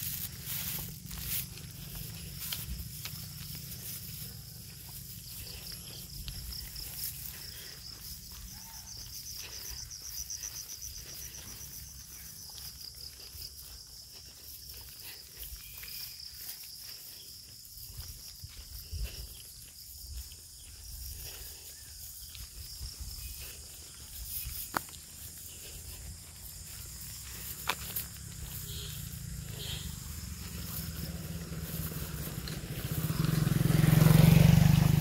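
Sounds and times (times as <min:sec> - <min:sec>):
footsteps on concrete: 0:00.0 - 0:34.0
insects trilling: 0:00.0 - 0:35.0.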